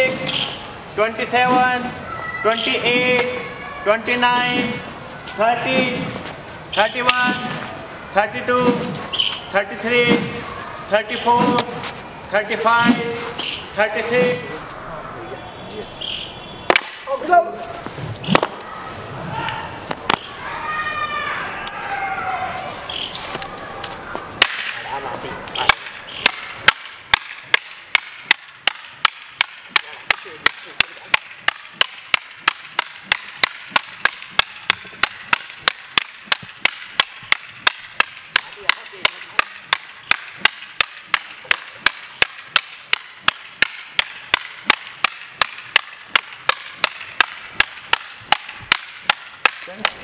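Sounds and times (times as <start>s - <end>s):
bamboo sticks clacking: 0.0s - 3.5s, 4.1s - 7.8s, 8.5s - 14.8s, 16.7s - 18.7s, 19.4s - 20.4s, 22.9s - 50.0s.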